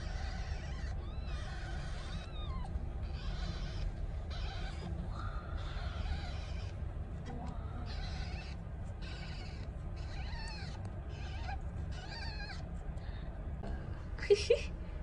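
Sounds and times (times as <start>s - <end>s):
kittens mewing: 0.0s - 13.0s
steady low rumble: 0.0s - 15.0s.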